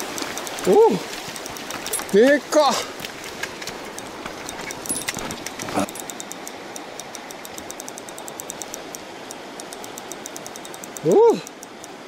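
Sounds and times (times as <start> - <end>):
faint ticks: 0.0 - 2.4, 3.0 - 12.0
river rushing over stones: 0.0 - 12.0.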